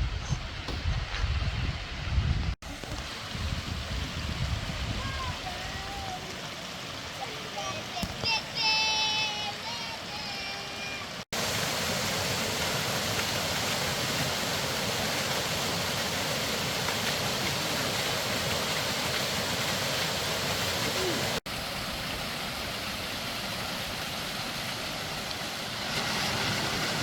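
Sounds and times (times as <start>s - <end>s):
waterfall rushing: 4.2s - 27.0s.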